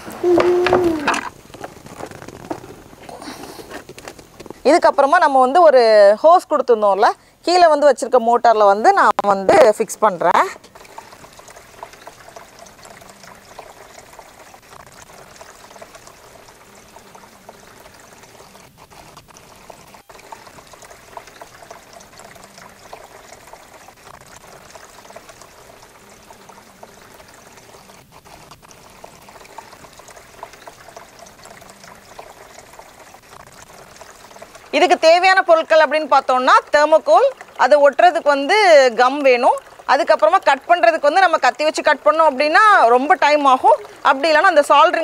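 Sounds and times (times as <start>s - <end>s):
fountain water splashing: 0.0s - 6.2s, 9.0s - 45.0s.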